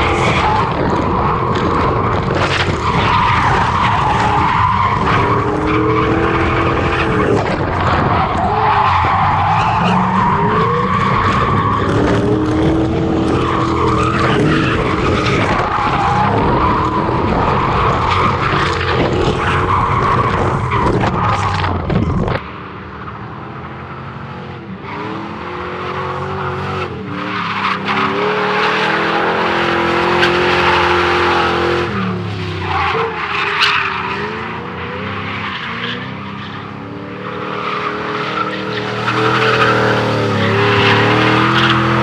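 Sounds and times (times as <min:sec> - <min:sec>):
tyres squealing and skidding: 0:00.0 - 0:22.4, 0:24.8 - 0:42.0
car engines revving: 0:00.0 - 0:42.0.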